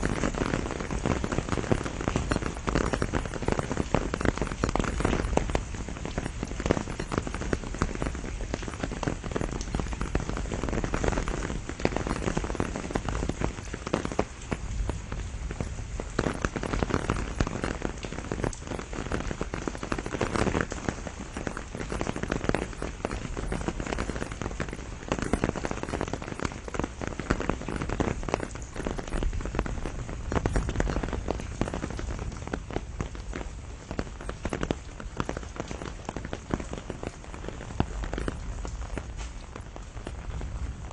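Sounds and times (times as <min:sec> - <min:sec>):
rain on leaves: 0:00.0 - 0:40.9.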